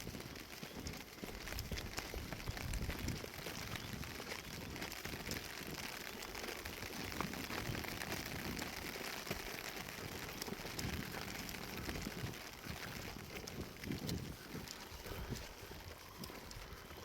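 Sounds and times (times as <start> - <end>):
rain shower hissing: 0.0 - 17.0
raindrop ticks: 0.0 - 17.0.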